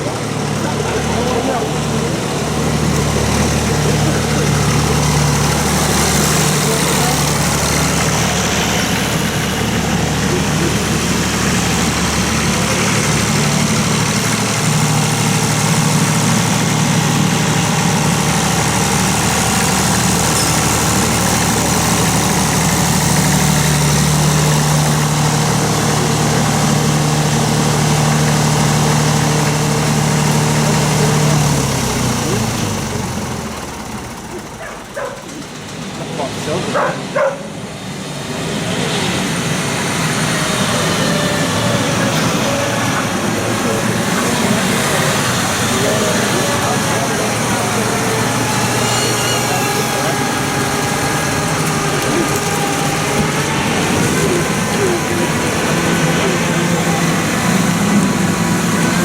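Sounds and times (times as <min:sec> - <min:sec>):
deeper engine note: 0:00.0 - 0:59.0
tractor engines idling: 0:00.0 - 0:59.0.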